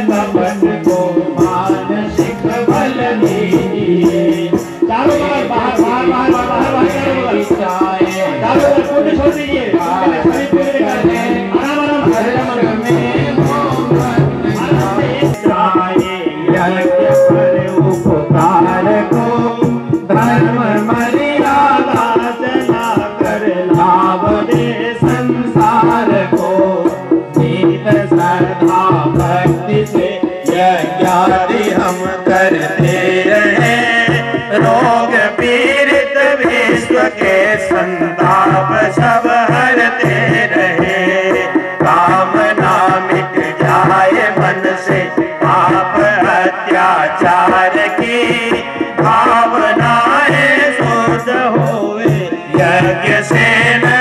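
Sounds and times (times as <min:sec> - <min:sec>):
hand drum: 0:00.0 - 0:54.0
harmonium: 0:00.0 - 0:54.0
men singing a hymn: 0:00.0 - 0:54.0
rattling percussion: 0:00.0 - 0:54.0.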